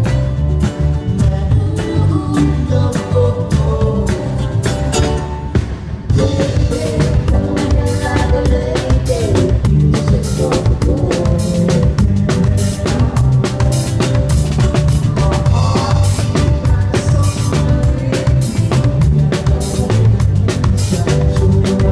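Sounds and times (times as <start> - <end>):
drum kit beat: 0.0 - 21.9
live band playing loudly: 0.0 - 21.9.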